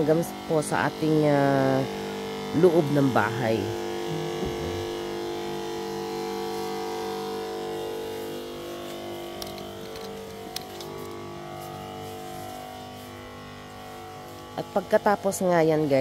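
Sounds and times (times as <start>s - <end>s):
electric sprayer pump buzzing: 0.0s - 16.0s.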